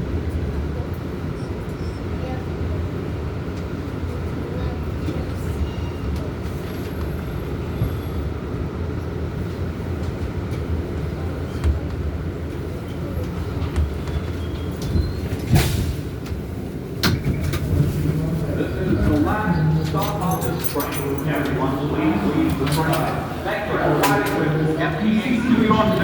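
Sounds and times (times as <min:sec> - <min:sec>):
subway train low rumble: 0:00.0 - 0:26.0.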